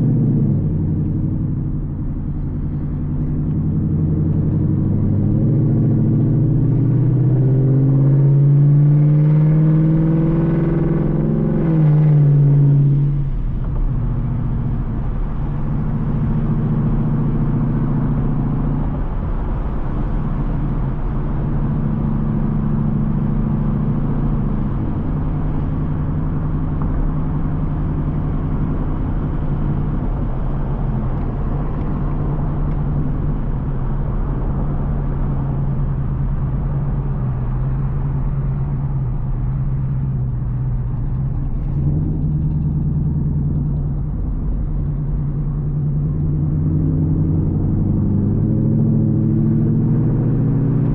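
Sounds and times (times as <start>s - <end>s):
car exhaust revving: 0.0s - 50.9s.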